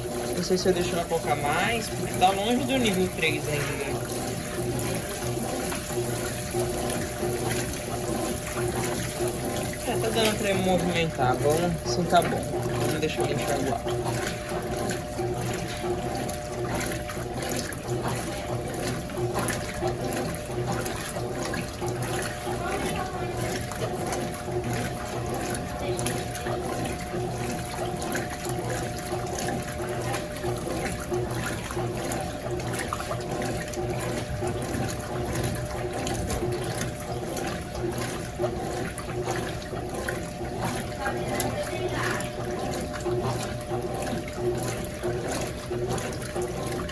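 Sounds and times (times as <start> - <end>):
washing machine motor humming: 0.0 - 46.9
water sloshing: 0.0 - 46.9.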